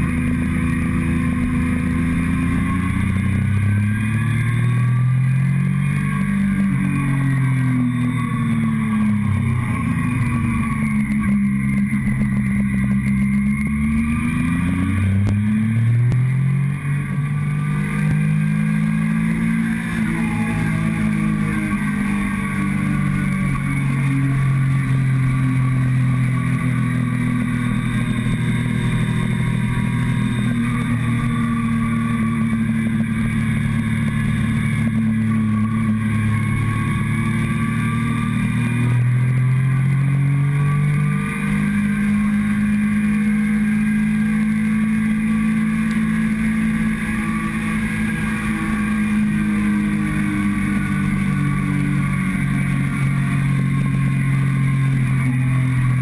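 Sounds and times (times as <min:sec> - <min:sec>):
motorcycle engine revving: 0:00.0 - 0:56.0
wind and road rush: 0:00.0 - 0:56.0.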